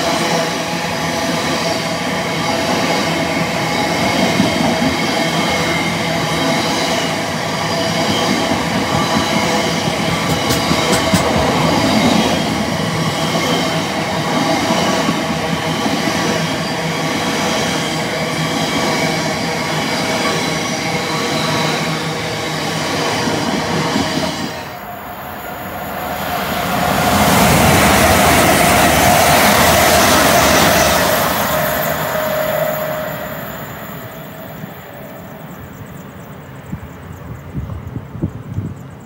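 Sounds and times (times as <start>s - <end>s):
passenger train passing at speed: 0.0s - 39.0s
train wheels squealing: 0.0s - 39.0s.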